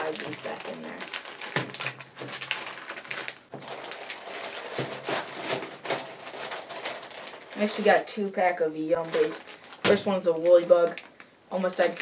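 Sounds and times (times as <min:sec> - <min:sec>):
plastic packets crinkling: 0:00.0 - 0:12.0.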